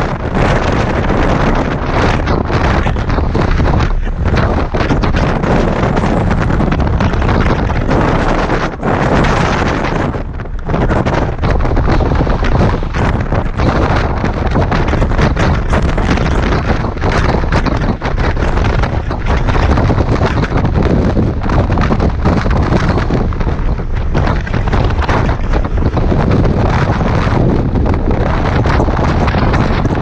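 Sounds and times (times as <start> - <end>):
thumps of gusts: 0.0 - 30.0
wind buffeting microphone: 0.0 - 30.0.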